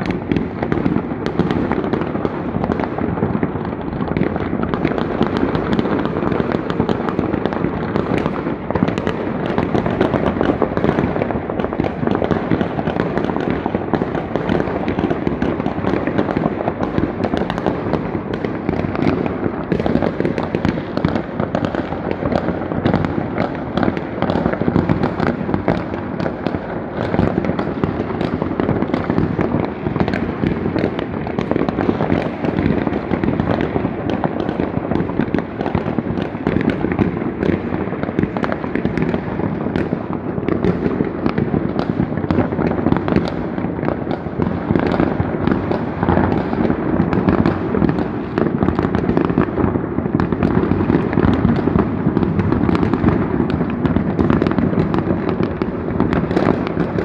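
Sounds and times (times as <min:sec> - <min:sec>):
dense crackle of firework bangs: 0:00.0 - 0:57.0.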